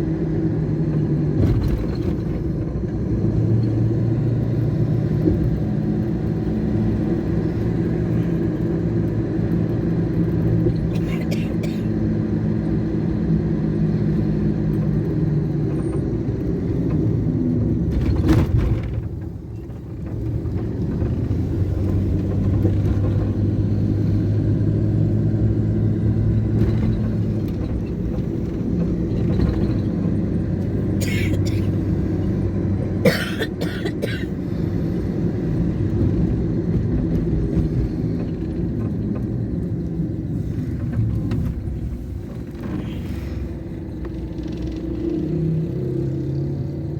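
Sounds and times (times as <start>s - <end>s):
road traffic engines: 0.0s - 46.9s.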